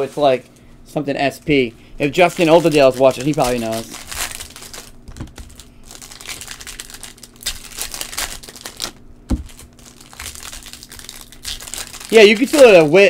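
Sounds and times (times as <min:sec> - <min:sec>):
card wrapper crinkling: 0:02.0 - 0:13.0.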